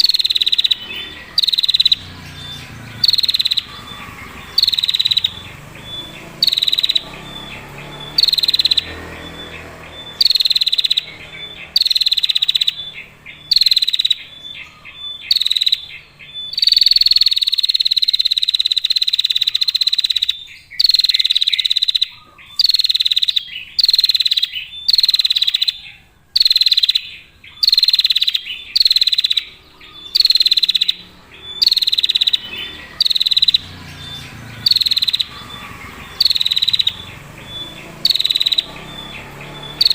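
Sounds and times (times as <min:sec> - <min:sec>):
bird giving buzzy trilling call: 0:00.0 - 0:39.9.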